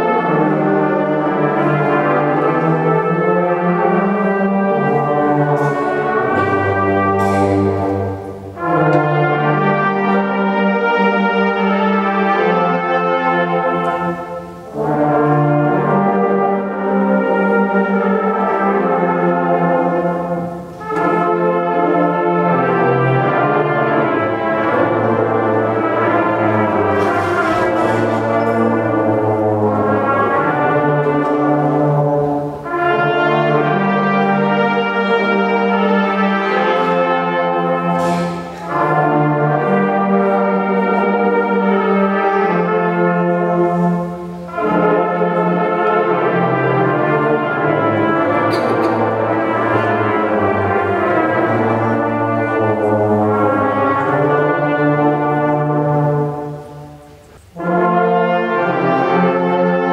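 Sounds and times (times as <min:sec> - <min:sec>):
slow instrumental music: 0:00.0 - 0:59.9.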